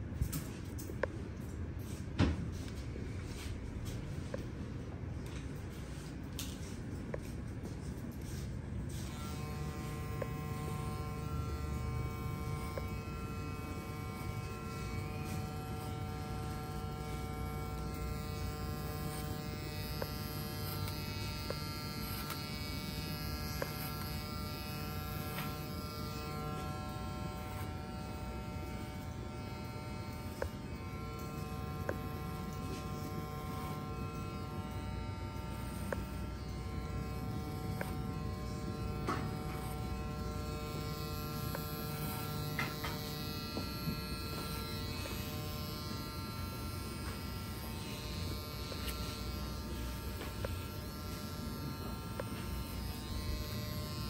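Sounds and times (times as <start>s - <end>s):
electric hair clippers buzzing: 0.0s - 4.6s, 5.2s - 54.0s.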